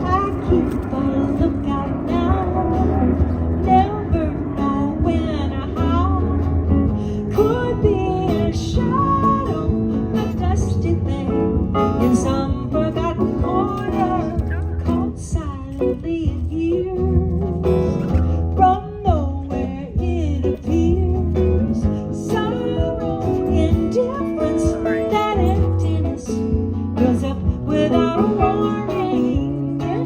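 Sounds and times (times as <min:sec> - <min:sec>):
guitar accompaniment: 0:00.0 - 0:30.0
person singing: 0:00.0 - 0:30.0.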